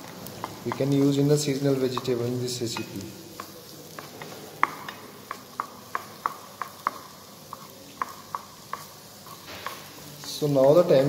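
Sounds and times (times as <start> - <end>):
faint steady hiss: 0.0 - 11.0
wooden spatula stirring vegetables: 0.0 - 11.0
spatula knocking frying pan: 0.4 - 1.1, 1.8 - 11.0.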